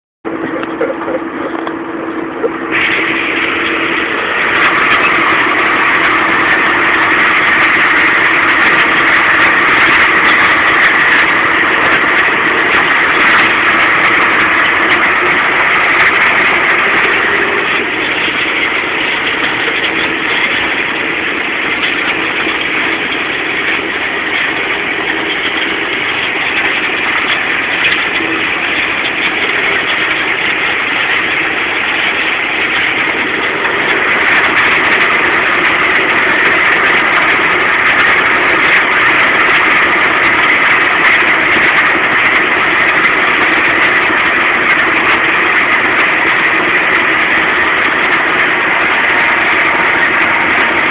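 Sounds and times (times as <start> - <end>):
tractor diesel engine running: 0.2 - 50.9.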